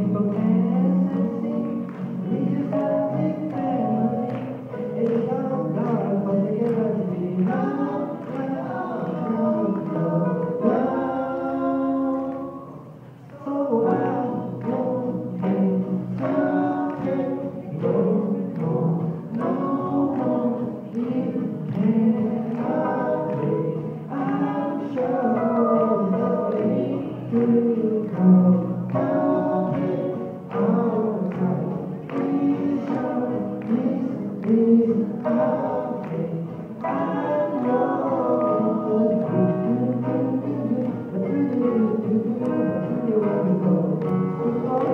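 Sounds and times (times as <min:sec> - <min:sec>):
acoustic guitar strumming: 0:00.0 - 0:44.9
man and woman singing: 0:00.0 - 0:44.9.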